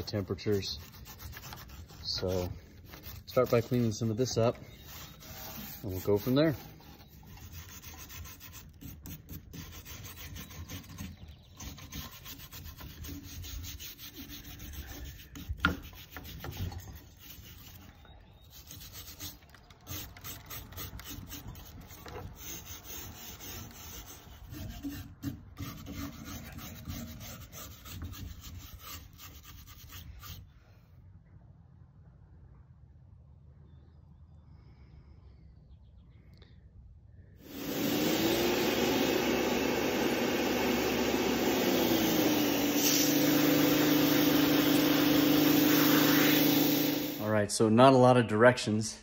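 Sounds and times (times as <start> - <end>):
brush scrubbing antler: 0.0 - 30.5, 37.4 - 47.2.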